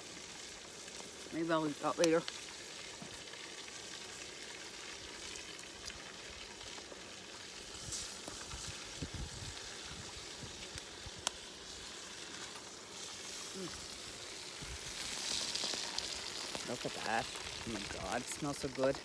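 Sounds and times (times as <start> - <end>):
steak sizzling over campfire: 0.0 - 19.0.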